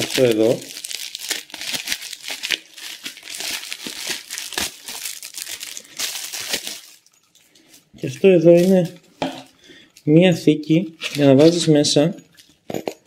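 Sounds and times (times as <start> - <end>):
plastic packaging crinkling: 0.0 - 9.0, 10.9 - 12.6.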